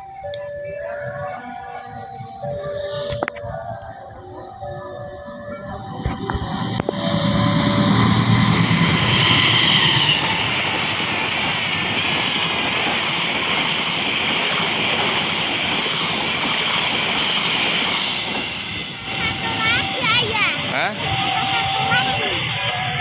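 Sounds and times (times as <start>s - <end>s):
train passing close: 0.0s - 23.0s.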